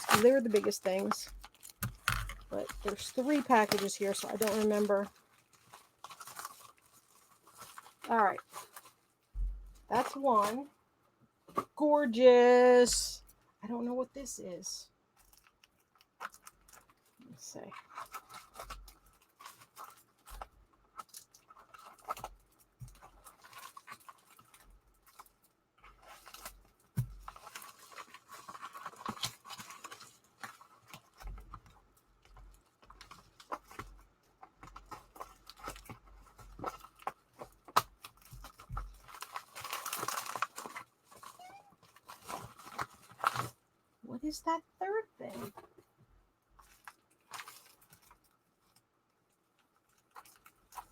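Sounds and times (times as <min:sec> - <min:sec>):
packaging rustling and tearing: 0:00.0 - 0:10.7, 0:15.2 - 0:43.6, 0:46.6 - 0:48.8, 0:49.6 - 0:50.9.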